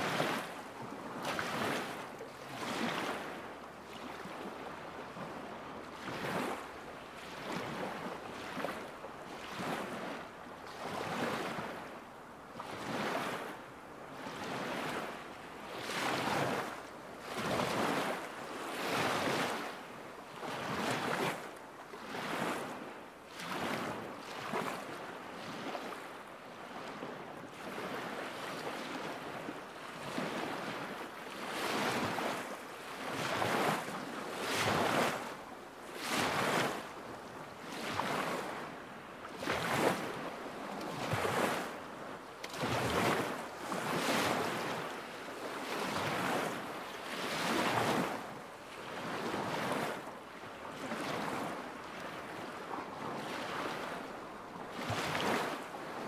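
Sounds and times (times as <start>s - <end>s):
waves lapping against shore: 0.0s - 56.0s.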